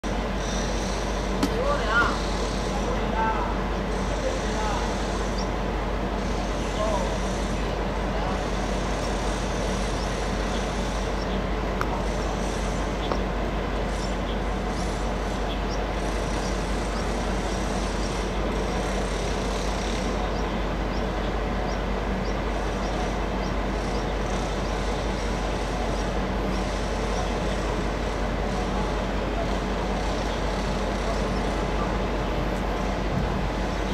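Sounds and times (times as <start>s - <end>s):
electric train humming: 0.0s - 33.9s.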